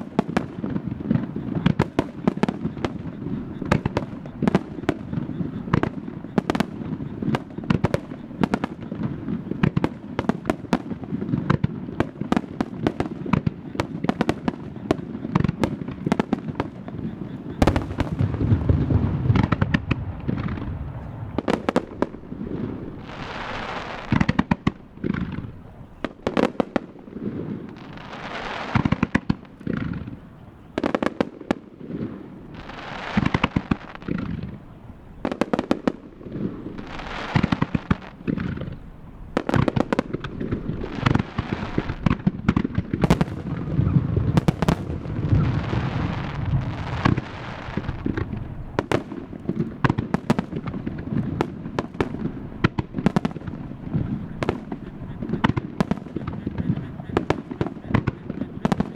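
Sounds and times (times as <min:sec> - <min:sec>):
fireworks bangs: 0:00.0 - 0:58.9
hissing crackle of fireworks: 0:00.0 - 0:58.9.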